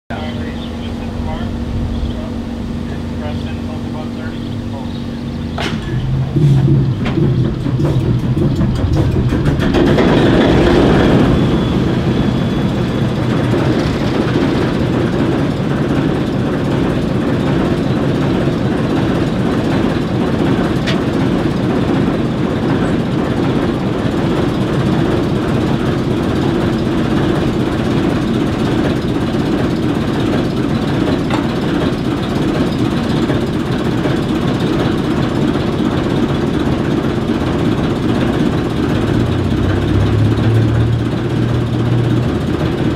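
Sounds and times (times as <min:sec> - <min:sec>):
diesel locomotive idling: 0:00.1 - 0:42.9.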